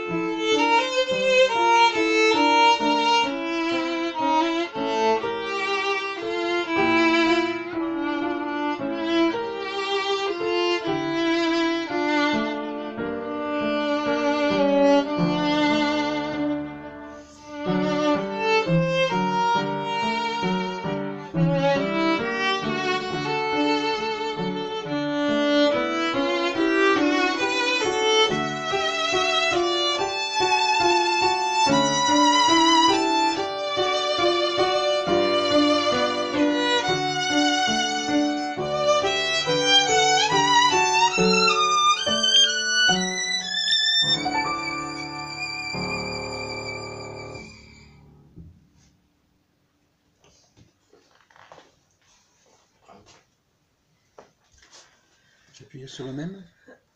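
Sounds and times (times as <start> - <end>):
violin melody with vibrato: 0.0 - 48.3
upright piano accompaniment: 0.0 - 48.8.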